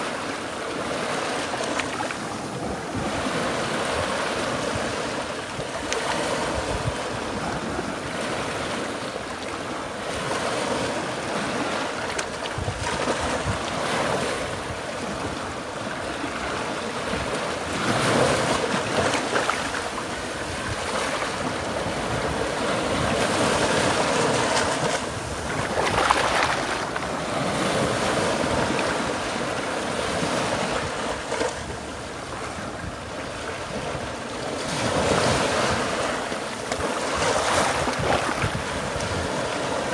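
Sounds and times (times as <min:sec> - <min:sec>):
small waves washing on sand: 0:00.0 - 0:39.9.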